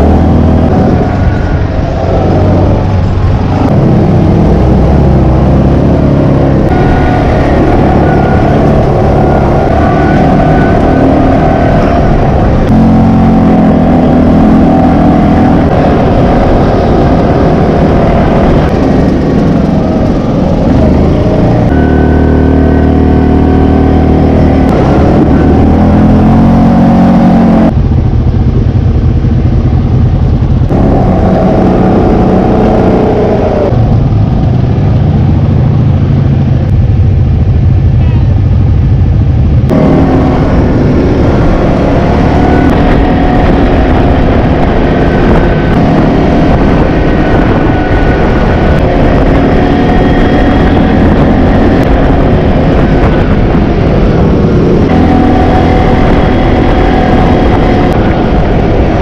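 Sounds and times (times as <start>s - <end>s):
quad bike engine revving: 0.0s - 27.8s, 30.6s - 34.4s, 39.7s - 59.0s.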